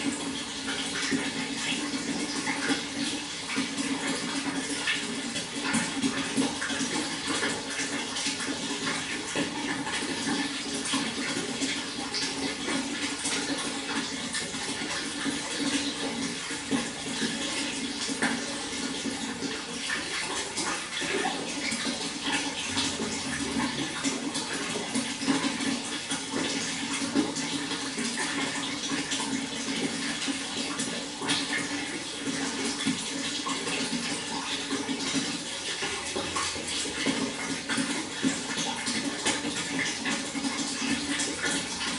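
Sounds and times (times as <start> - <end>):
water flowing with splashes: 0.0 - 41.9.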